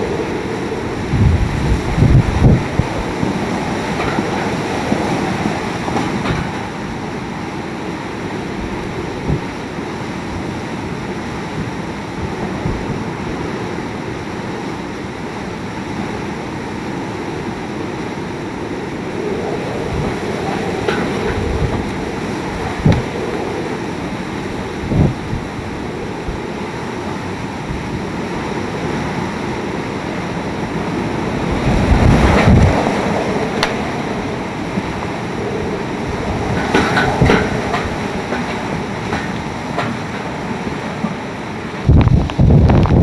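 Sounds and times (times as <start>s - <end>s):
heavy rain: 0.0s - 43.0s
strong wind: 0.0s - 43.0s
wind gusts buffeting microphone: 0.0s - 43.0s.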